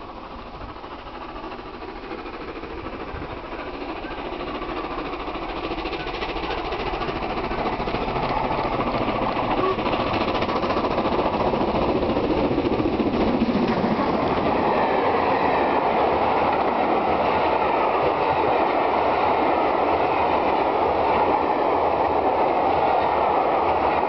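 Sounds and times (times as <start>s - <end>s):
rumble of wheels on rail: 0.0s - 24.0s
steam locomotive passing: 0.0s - 24.0s.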